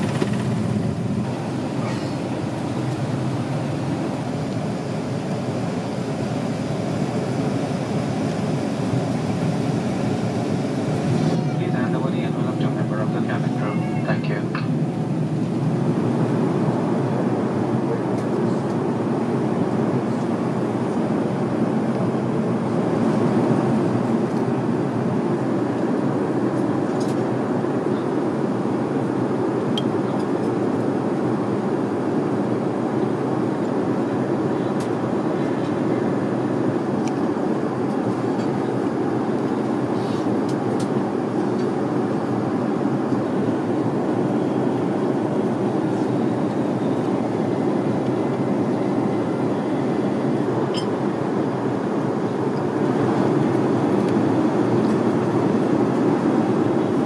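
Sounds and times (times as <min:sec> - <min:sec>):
airliner engines and airflow rush: 0:00.0 - 0:57.0.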